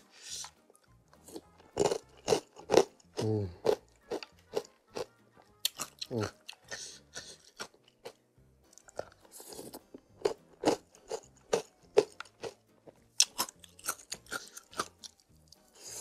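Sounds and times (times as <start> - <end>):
crunchy chewing: 1.3 - 16.0.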